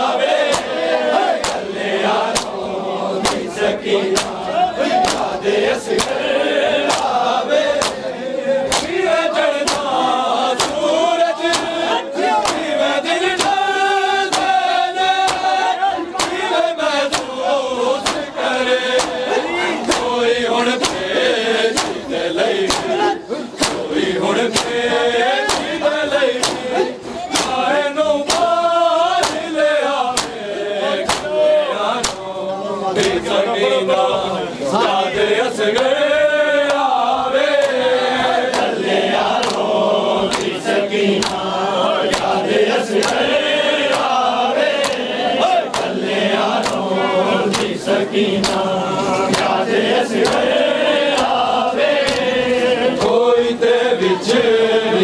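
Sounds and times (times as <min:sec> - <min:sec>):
hands slapping chests in unison: 0:00.0 - 0:33.3, 0:34.7 - 0:54.6
men chanting together: 0:00.0 - 0:55.0.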